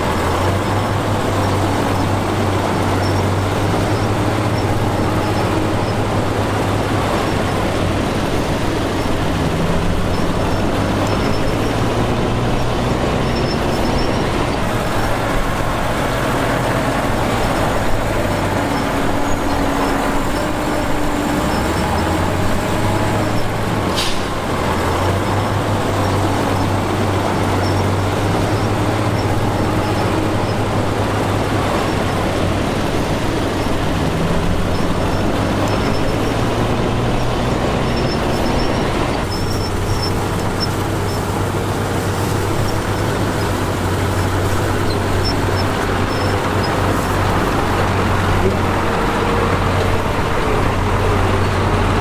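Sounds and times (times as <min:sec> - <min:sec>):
heavy diesel engines humming: 0:00.0 - 0:52.0.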